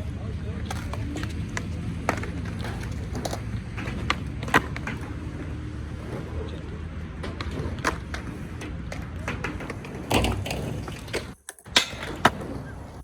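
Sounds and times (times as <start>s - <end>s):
skateboard clacking on ground: 0.0s - 13.0s
skateboard wheels rolling on concrete: 0.0s - 13.0s.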